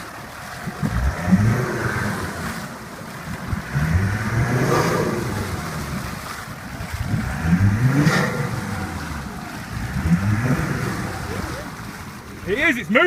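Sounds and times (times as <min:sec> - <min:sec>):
water churning: 0:00.0 - 0:13.0
diesel engine revving: 0:00.6 - 0:13.0.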